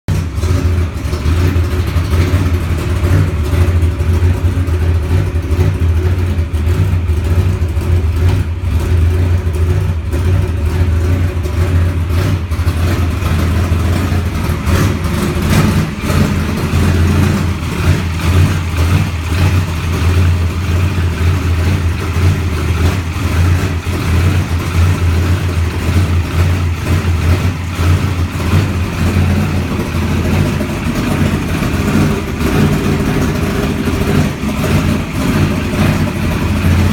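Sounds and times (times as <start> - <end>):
race car engine running: 0.0 - 36.9.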